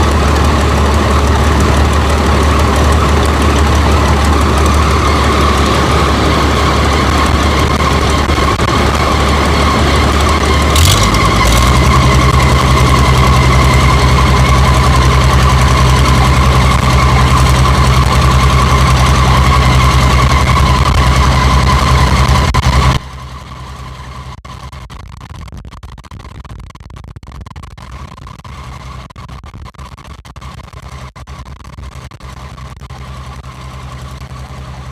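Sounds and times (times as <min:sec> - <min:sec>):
combine harvester engine whining: 0:00.0 - 0:24.9, 0:30.8 - 0:34.9.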